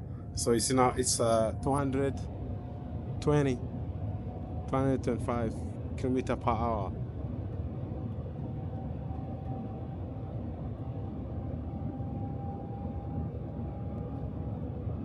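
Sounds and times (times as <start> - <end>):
faint high whine: 0.0 - 15.0
train cabin low rumble: 0.0 - 15.0.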